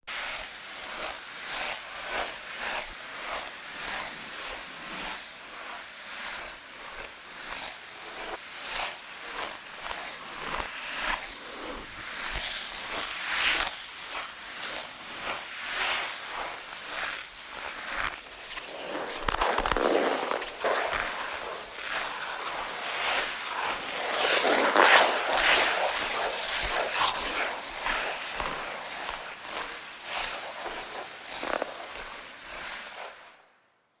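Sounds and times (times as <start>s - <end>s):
ice skates scraping on ice: 0.1s - 33.4s.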